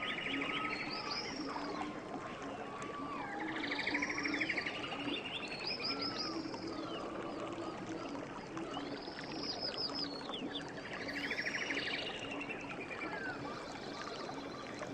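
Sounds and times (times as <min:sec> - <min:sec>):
river water flowing: 0:00.0 - 0:14.9
songbirds singing: 0:00.0 - 0:14.9.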